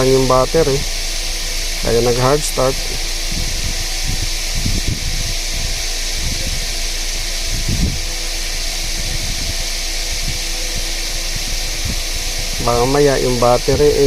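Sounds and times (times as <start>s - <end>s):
even hiss: 0.0s - 14.0s
mechanical whirring hum: 0.0s - 14.0s.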